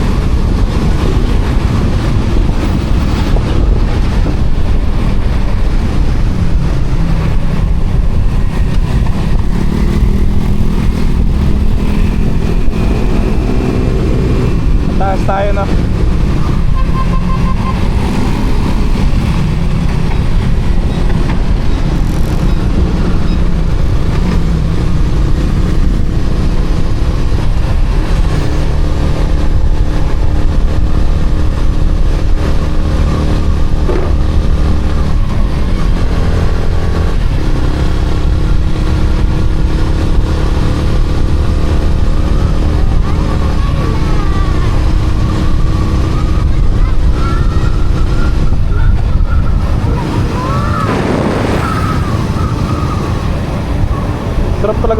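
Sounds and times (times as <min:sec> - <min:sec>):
motorcycle engine running: 0:00.0 - 0:54.9
wind rumble on microphone: 0:00.0 - 0:54.9.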